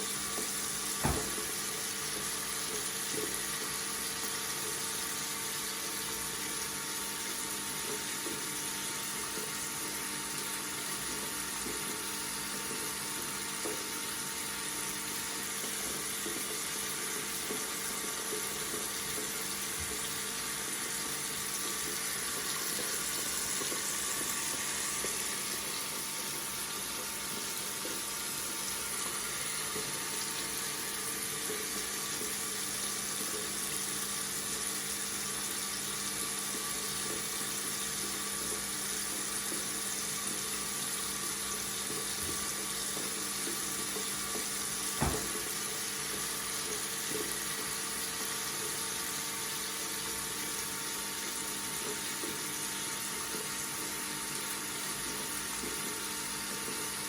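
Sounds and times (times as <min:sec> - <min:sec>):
water running from a tap: 0:00.0 - 0:57.0.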